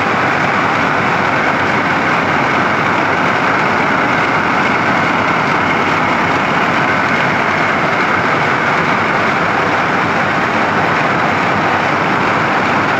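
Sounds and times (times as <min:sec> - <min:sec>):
weaving loom running: 0:00.0 - 0:12.9.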